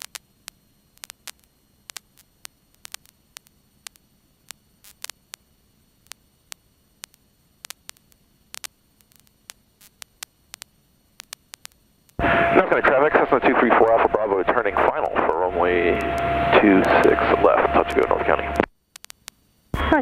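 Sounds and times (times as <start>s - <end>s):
faint radio hiss: 0.0s - 20.0s
radio static clicks and pops: 0.0s - 20.0s.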